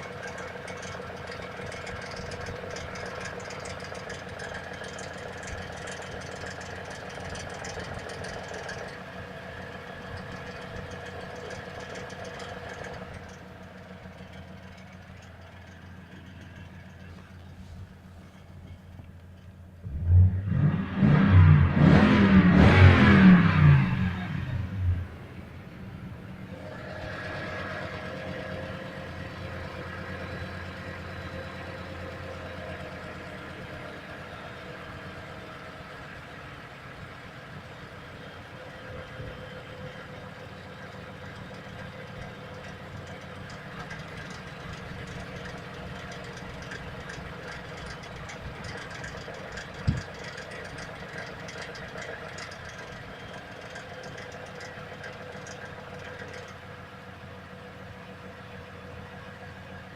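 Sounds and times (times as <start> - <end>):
car engine idling with knock: 0.0 - 20.1, 27.8 - 59.9.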